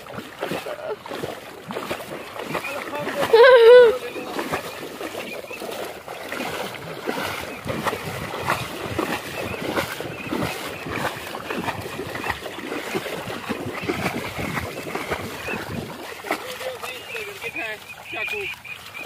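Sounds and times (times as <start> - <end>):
wading splashes in shallow water: 0.0 - 19.0.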